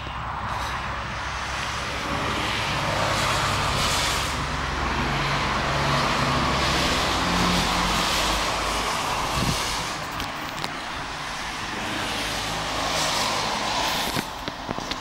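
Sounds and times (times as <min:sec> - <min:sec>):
tyres hissing on wet road: 0:00.0 - 0:15.0.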